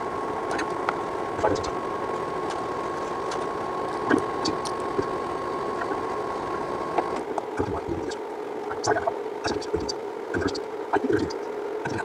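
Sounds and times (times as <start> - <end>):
steady background hum: 0.0 - 12.0
thin whine: 0.0 - 12.0.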